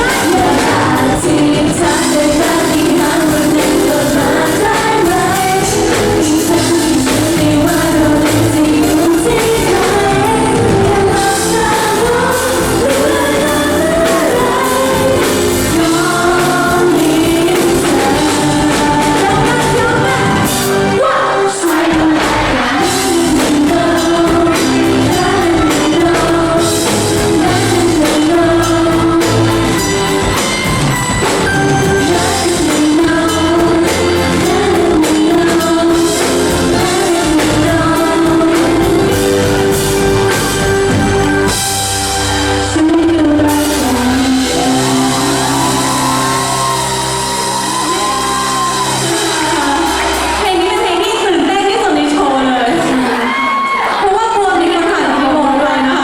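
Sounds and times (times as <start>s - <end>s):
band with steady drum beat: 0.0s - 21.0s, 21.6s - 53.8s
person singing pop song: 0.0s - 56.0s.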